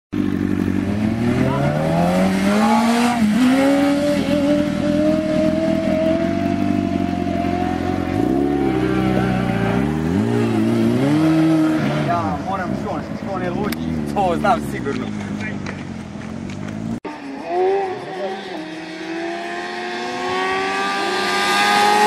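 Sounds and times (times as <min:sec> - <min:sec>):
motorcycle engine revving: 0:00.1 - 0:22.0.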